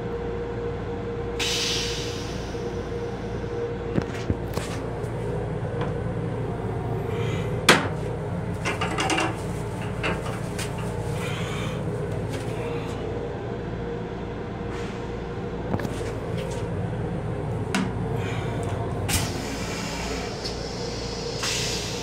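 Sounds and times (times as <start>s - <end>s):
electric railcar hum and rumble: 0.0s - 22.0s.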